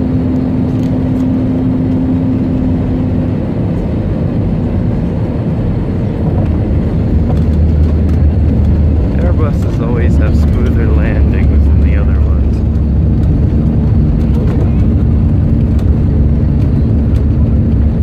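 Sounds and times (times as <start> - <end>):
airplane cabin engine noise: 0.0 - 18.0
constant hum: 0.0 - 18.0
deep rumble: 0.0 - 18.0.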